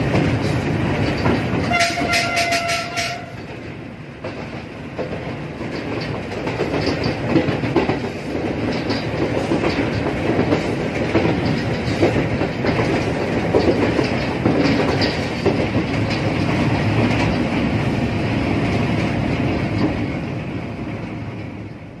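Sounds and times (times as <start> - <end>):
train wheels clattering over rails: 0.0 - 22.0.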